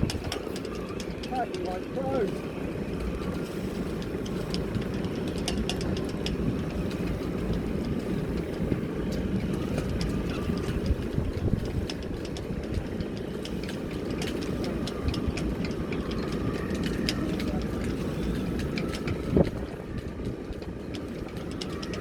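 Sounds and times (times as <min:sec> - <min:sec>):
boat engine running: 0:00.0 - 0:22.0
wind rumbling over microphone: 0:00.0 - 0:22.0.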